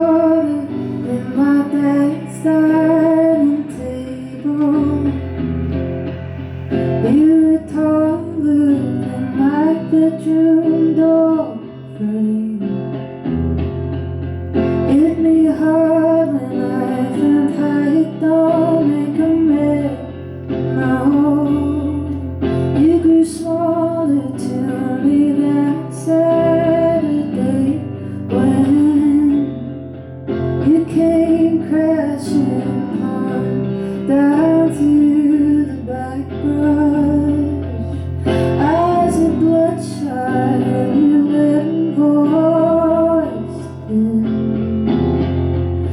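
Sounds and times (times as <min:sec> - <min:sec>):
woman singing: 0:00.0 - 0:13.3, 0:14.6 - 0:45.0
guitar: 0:00.0 - 0:45.9.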